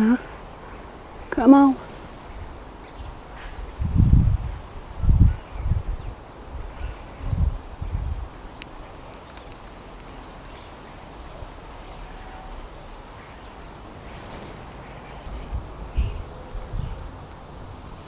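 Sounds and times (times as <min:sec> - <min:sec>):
small birds chirping: 0:00.0 - 0:18.0
steady outdoor hiss: 0:00.0 - 0:18.0.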